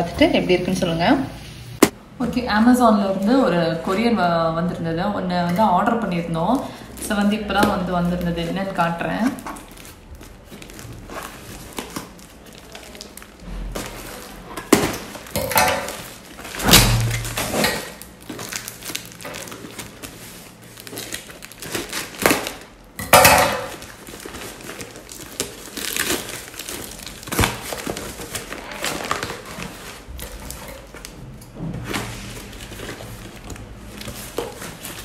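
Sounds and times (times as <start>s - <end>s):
parcel packaging handled: 5.5s - 35.0s.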